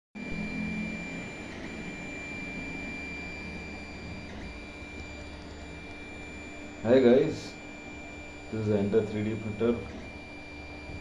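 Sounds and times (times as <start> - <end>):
printer high-pitched whine: 0.2 - 11.0.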